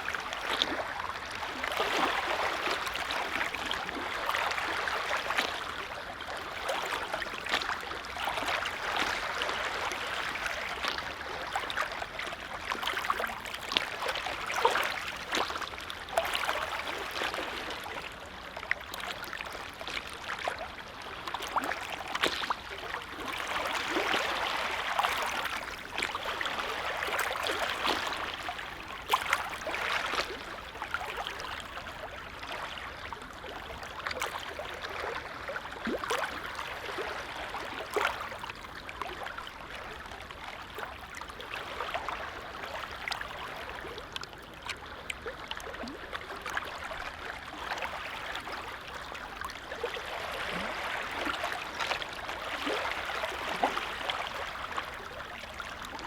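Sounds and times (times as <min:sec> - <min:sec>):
lake waves lapping: 0:00.0 - 0:56.0
small water splashes: 0:00.0 - 0:56.0.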